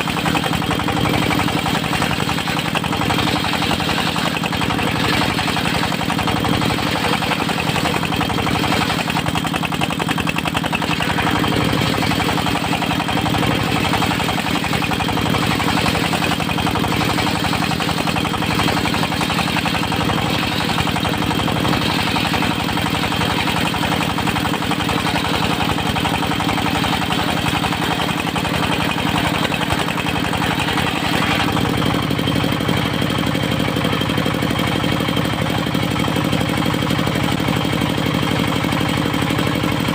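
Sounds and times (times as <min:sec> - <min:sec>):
diesel engine with rapid beat: 0:00.0 - 0:39.9.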